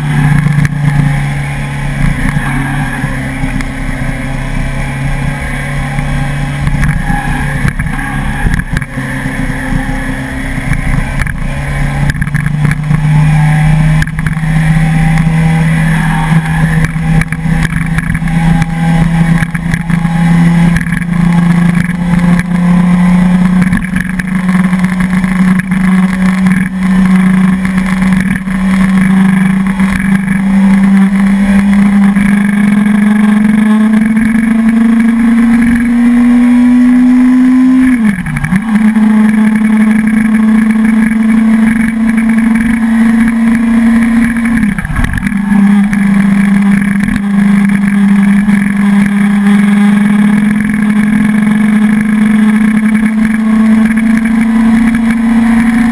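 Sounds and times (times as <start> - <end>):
motorcycle engine pulling uphill: 0.0 - 55.9.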